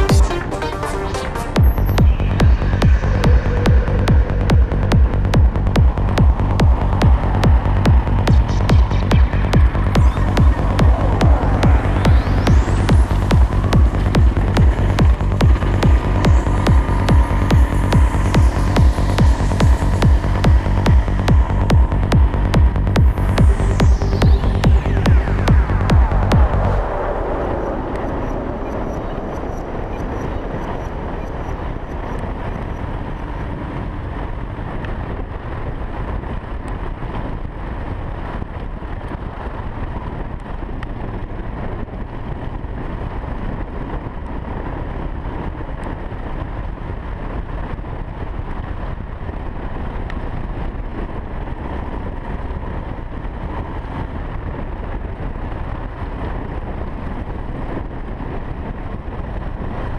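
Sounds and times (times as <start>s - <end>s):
wind rush on microphone: 0.0s - 59.9s.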